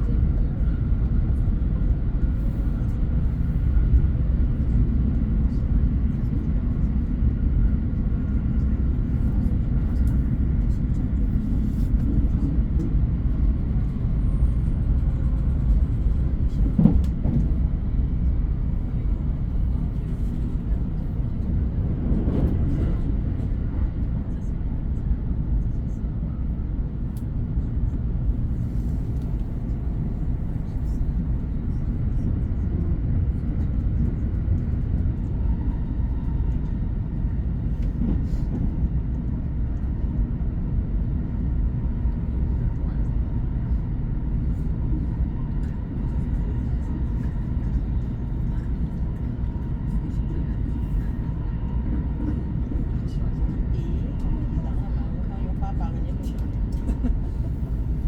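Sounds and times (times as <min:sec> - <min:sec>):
moving train rumble: 0:00.0 - 0:58.0.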